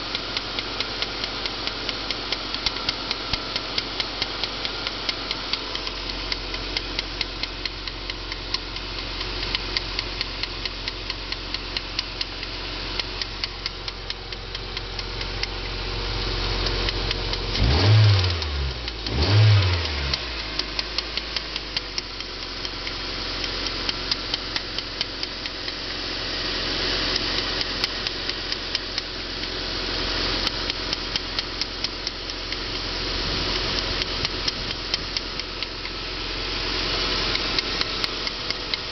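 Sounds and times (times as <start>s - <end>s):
regular engine knock: 0.0s - 26.2s, 27.0s - 29.6s, 30.4s - 38.9s
car engine running: 0.0s - 38.9s
engine revving: 0.0s - 38.9s.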